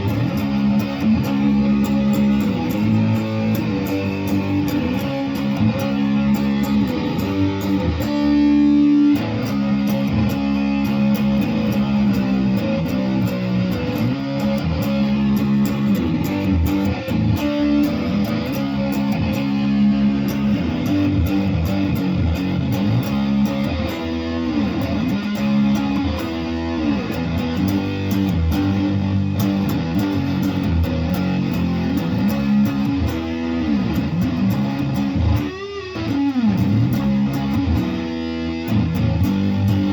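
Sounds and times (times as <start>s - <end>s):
guitar playing with bent notes: 0.0s - 39.9s.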